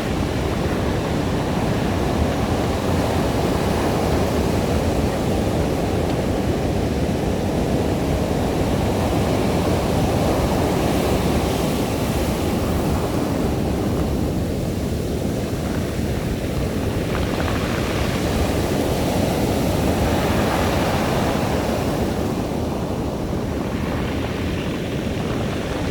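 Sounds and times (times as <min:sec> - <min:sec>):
waves washing over pebbles: 0:00.0 - 0:25.9.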